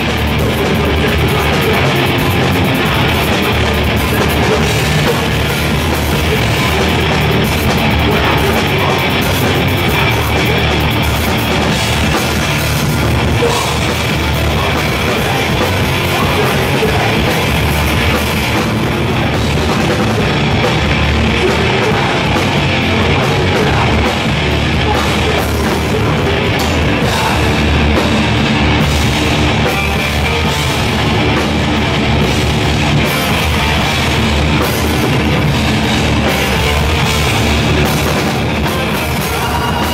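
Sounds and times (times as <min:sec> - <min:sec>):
distorted electric guitar: 0:00.0 - 0:39.9
pounding drum kit: 0:00.0 - 0:39.9
punk band playing live: 0:00.0 - 0:39.9.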